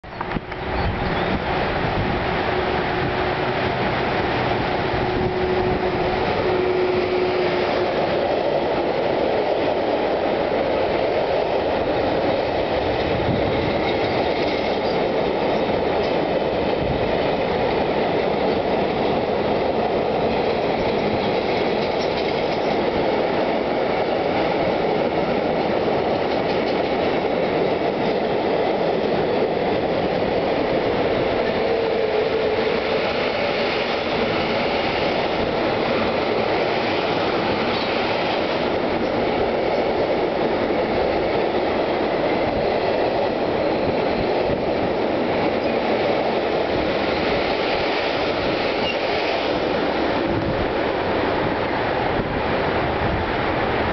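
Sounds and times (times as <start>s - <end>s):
clickety-clack over rail joints: 0.0s - 53.9s
train wheels rumbling on rails: 0.0s - 53.9s.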